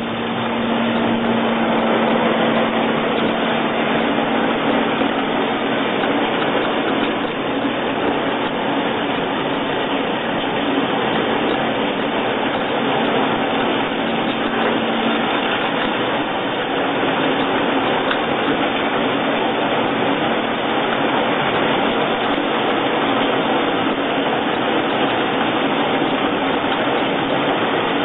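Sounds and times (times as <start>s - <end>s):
machine rushing noise: 0.0s - 28.0s.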